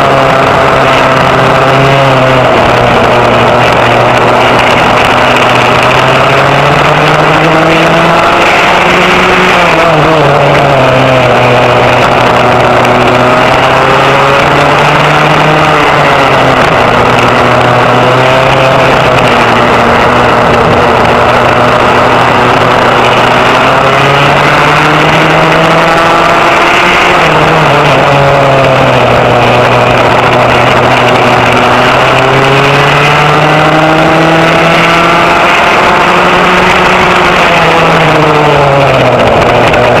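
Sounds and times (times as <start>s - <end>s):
racing kart engine revving: 0.0s - 40.0s.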